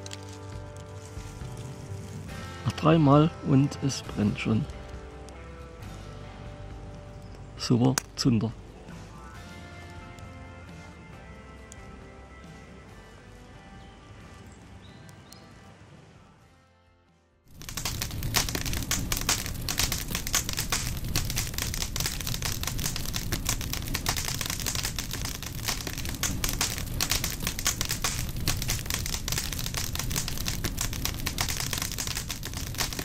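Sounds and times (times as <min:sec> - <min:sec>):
fire crackling: 0:00.0 - 0:12.3, 0:17.5 - 0:33.0.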